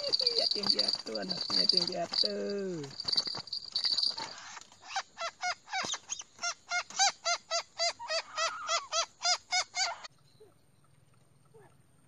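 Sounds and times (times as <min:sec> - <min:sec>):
crake calling: 0:00.0 - 0:10.6.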